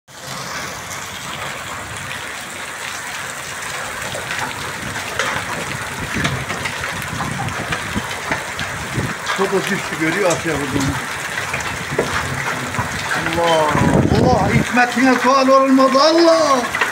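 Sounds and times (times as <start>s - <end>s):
hail falling hard: 0.1s - 16.9s.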